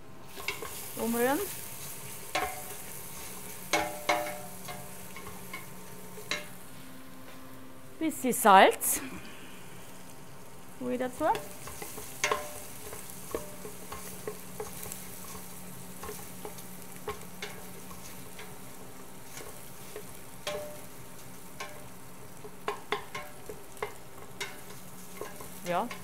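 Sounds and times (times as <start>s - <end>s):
vegetables sizzling in fat: 0.1s - 26.0s.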